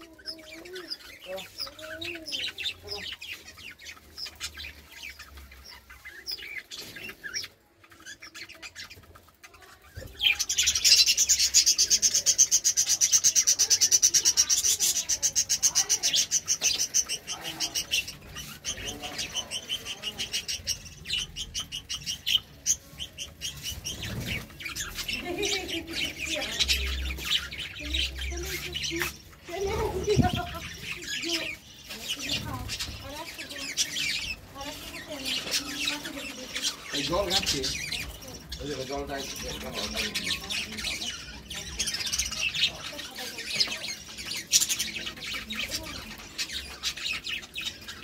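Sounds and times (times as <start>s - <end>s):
budgerigars chirping: 0.0s - 48.0s.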